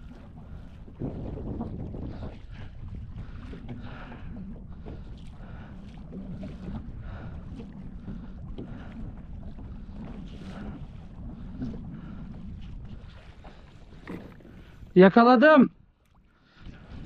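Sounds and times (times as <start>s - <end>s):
water swishing around canoe: 0.0s - 17.0s
wind buffeting microphone: 0.0s - 17.0s.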